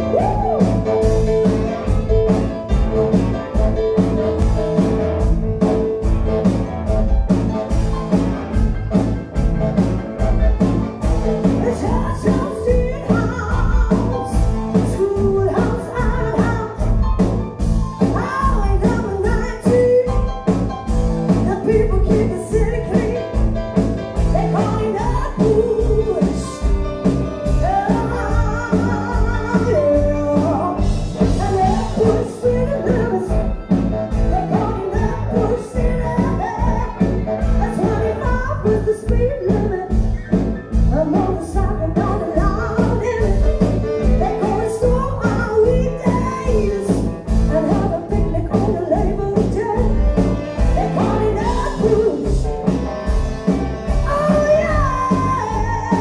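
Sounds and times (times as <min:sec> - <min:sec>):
live band playing: 0:00.0 - 0:56.0
woman singing lead: 0:00.0 - 0:56.0.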